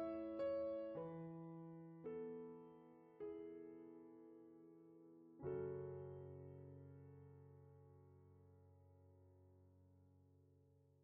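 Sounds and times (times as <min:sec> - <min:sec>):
soft piano chords: 0:00.0 - 0:09.9.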